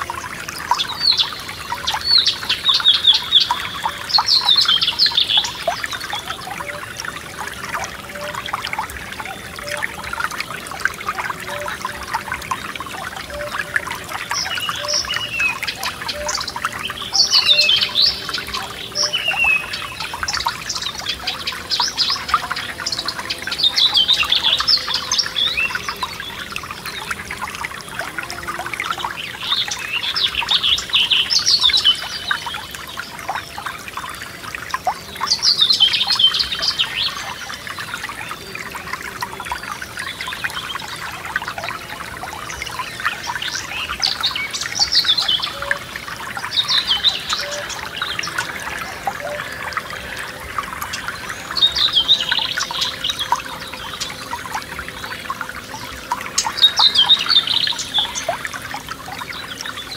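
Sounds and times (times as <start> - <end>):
songbirds singing: 0.0 - 59.9
stream trickling and bubbling: 0.0 - 59.9.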